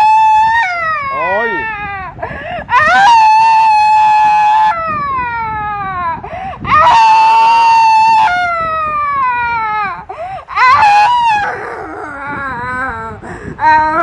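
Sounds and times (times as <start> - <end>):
woman screaming and wailing: 0.0 - 14.0.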